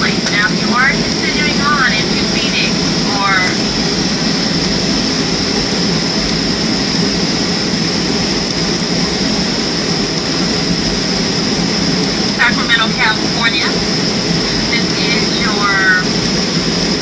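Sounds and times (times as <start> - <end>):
airplane cabin noise: 0.0 - 17.0.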